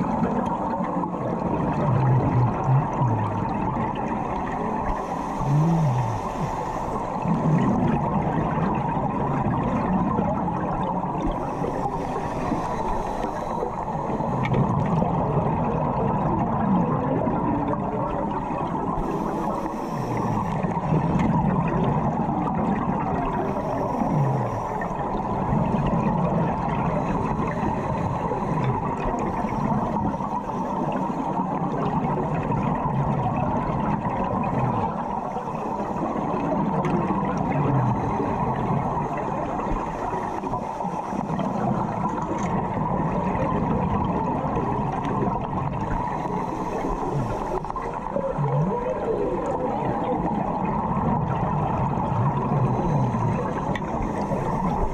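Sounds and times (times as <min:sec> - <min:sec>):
diver's bubbles gurgling: 0:00.0 - 0:54.9
underwater water rush: 0:00.0 - 0:54.9.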